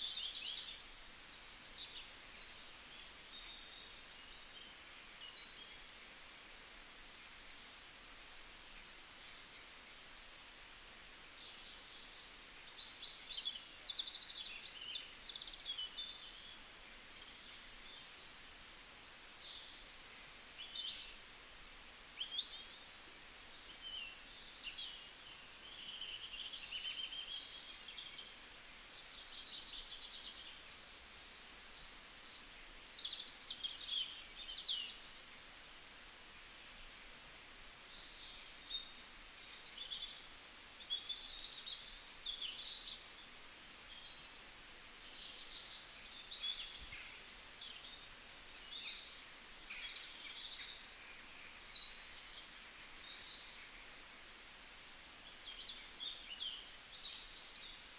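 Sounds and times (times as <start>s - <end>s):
faint steady hiss: 0.0s - 57.9s.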